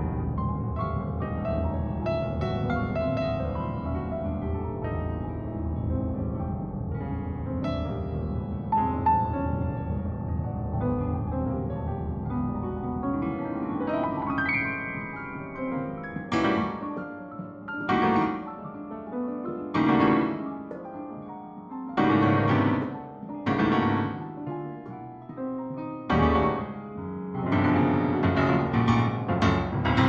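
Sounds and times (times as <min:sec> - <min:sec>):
piano chords: 0:00.0 - 0:30.0.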